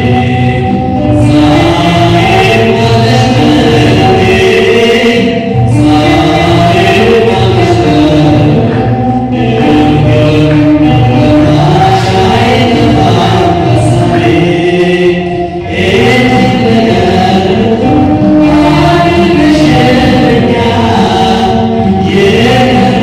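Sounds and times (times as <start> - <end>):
instrumental backing music: 0.0 - 23.0
person singing gospel through pa: 0.0 - 23.0.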